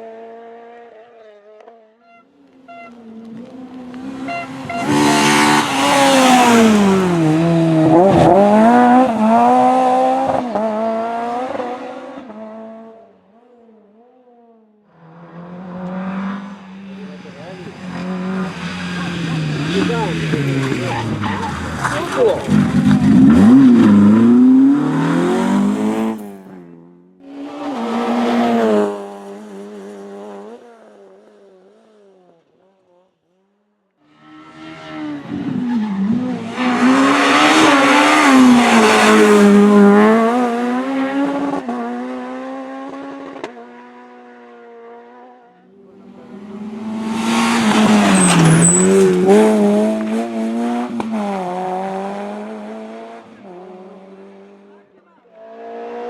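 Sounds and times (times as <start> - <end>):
rally cars passing and revving: 0.0 - 56.0.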